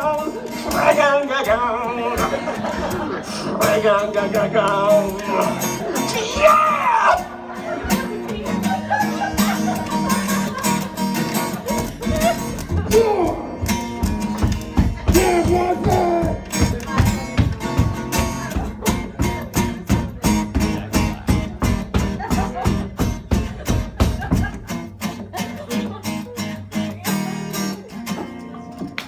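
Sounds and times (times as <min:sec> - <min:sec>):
acoustic guitar sliding notes: 0:00.0 - 0:28.9
guitar strumming: 0:00.0 - 0:29.0.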